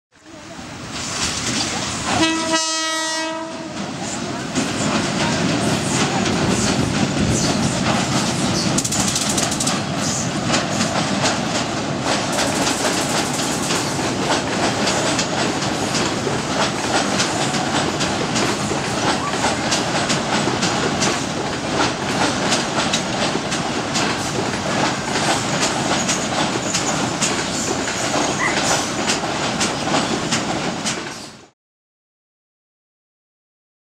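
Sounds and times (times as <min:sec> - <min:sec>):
train rumble: 0:00.3 - 0:31.5
train wheels clattering over joints: 0:03.2 - 0:31.5.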